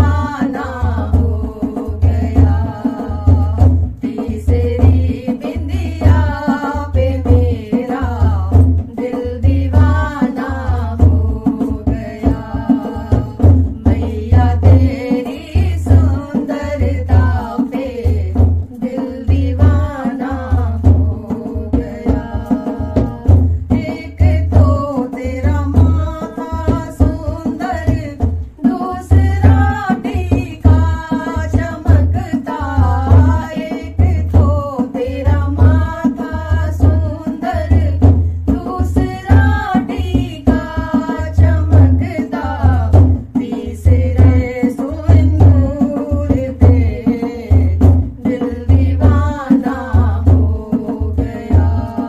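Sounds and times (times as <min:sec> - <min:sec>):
deep drum beat: 0:00.0 - 0:52.0
person singing a devotional melody: 0:00.0 - 0:52.0
tabla-like percussion: 0:00.0 - 0:52.0.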